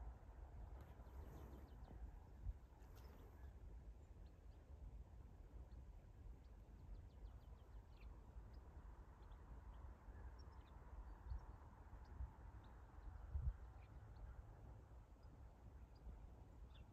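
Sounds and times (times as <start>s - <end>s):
faint bird chirps: 0.8s - 4.8s, 5.6s - 16.9s.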